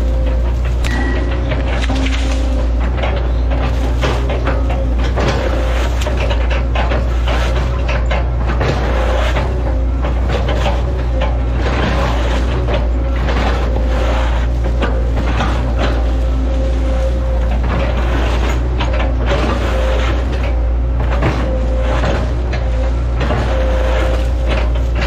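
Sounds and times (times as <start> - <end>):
crunching knocks: 0.0 - 25.0
excavator diesel engine running: 0.0 - 25.0
steady whine: 0.0 - 25.0.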